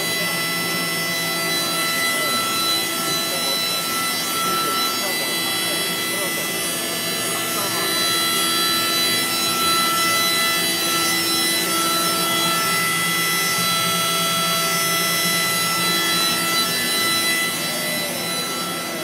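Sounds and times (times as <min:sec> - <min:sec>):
milling machine cutting metal: 0:00.0 - 0:19.0.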